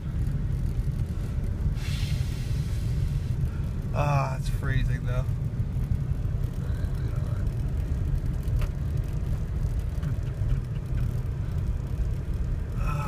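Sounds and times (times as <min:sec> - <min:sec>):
vehicle rumble driving on snow: 0:00.0 - 0:13.0.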